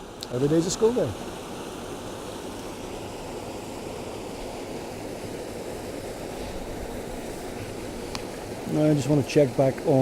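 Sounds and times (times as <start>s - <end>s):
waterfall and stream rushing: 0.0s - 10.0s.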